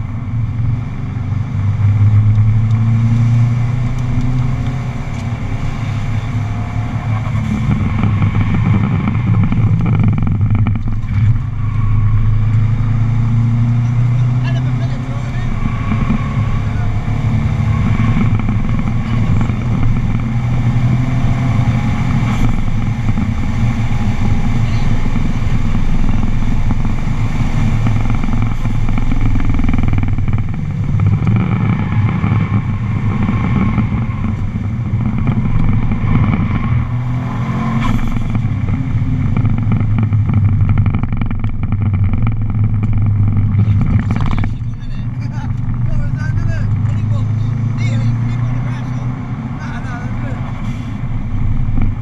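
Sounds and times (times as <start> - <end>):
car engine running hard: 0.0 - 52.0
wind and road noise: 0.0 - 52.0.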